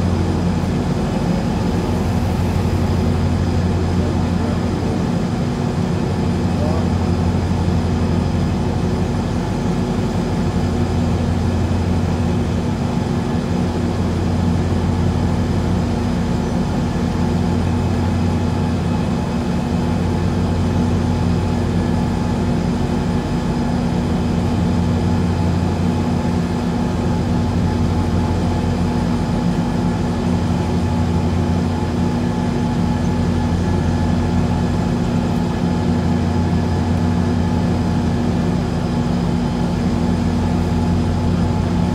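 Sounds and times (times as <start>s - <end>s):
diesel engines droning: 0.0s - 41.9s.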